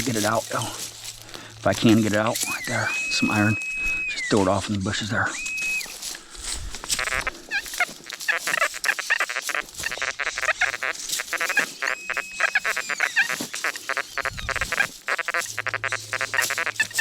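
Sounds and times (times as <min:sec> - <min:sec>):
metal detector tones: 0:00.0 - 0:17.0.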